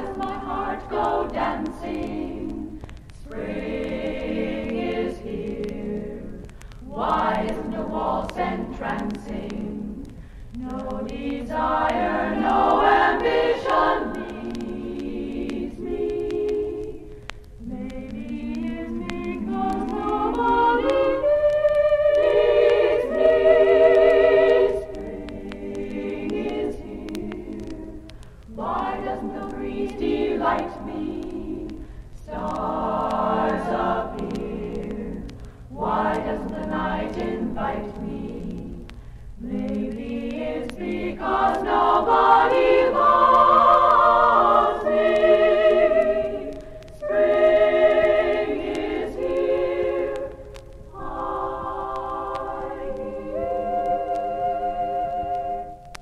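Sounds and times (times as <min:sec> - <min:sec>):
women singing a cappella harmony: 0:00.0 - 0:56.0.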